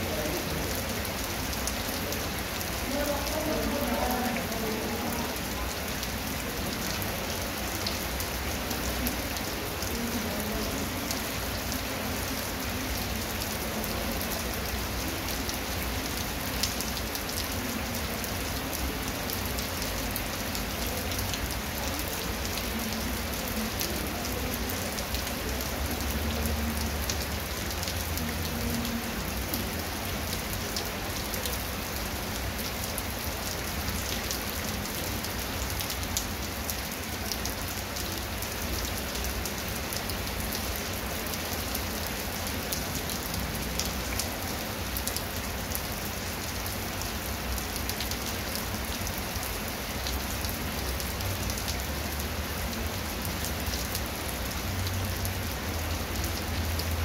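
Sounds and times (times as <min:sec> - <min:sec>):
heavy rain on concrete and grass: 0:00.0 - 0:57.0.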